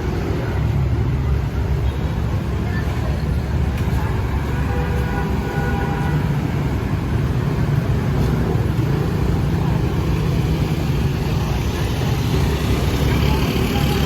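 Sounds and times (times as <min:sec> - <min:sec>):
motor vehicles rumbling: 0:00.0 - 0:14.0.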